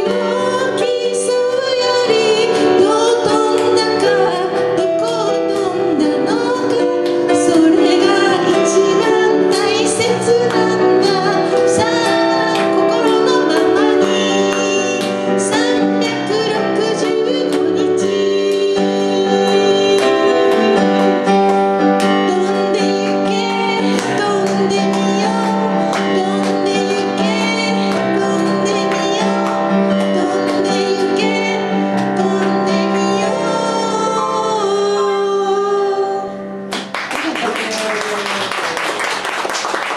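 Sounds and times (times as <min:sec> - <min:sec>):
woman singing pop ballad: 0:00.0 - 0:36.4
digital piano chords: 0:00.0 - 0:37.0.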